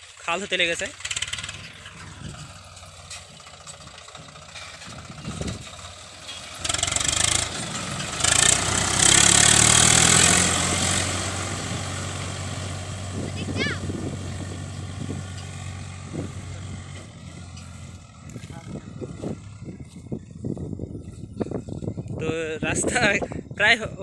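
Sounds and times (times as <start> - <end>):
tractor diesel engine running: 0.0 - 23.8.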